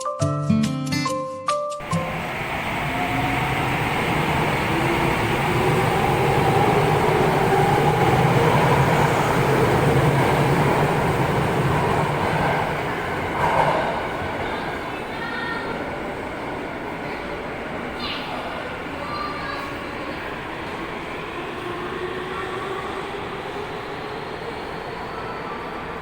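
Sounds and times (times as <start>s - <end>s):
train rumble: 1.8s - 26.0s.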